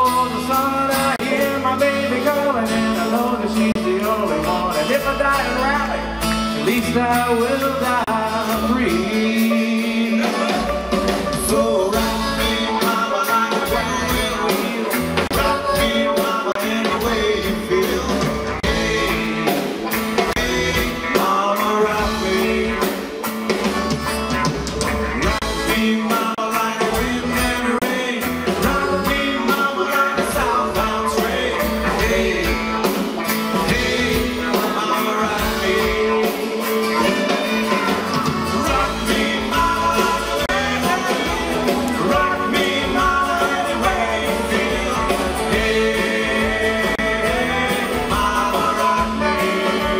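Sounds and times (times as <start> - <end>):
country rock guitar: 0.0 - 49.9
drum kit beat: 0.0 - 49.9.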